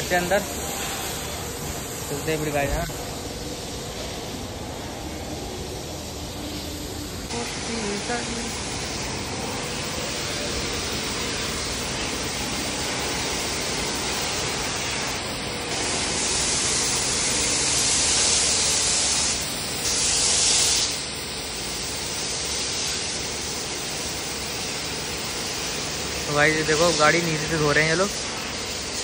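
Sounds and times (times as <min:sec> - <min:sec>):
car wash water spraying: 0:00.0 - 0:29.0.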